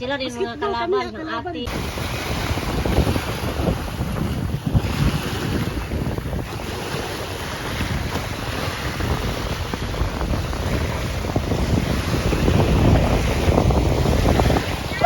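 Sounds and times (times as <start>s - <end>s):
wind rumbling on microphone: 1.6s - 15.0s
sea surf rushing: 1.7s - 15.0s.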